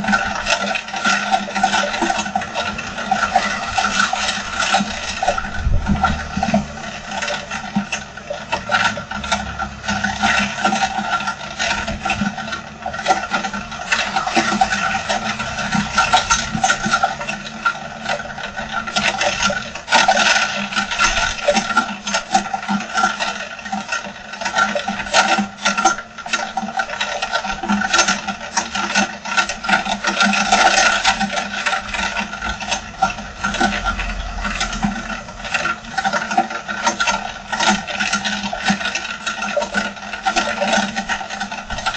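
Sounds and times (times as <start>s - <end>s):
heavy rain pelting down: 0.0s - 23.6s, 29.8s - 41.9s.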